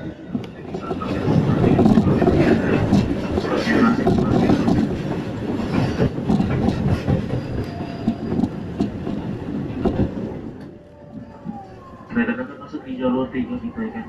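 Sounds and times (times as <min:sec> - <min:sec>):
wheels clacking over rail joints: 0:00.0 - 0:11.7
electric train running rumble: 0:00.0 - 0:14.0
trains passing close by: 0:00.0 - 0:14.0.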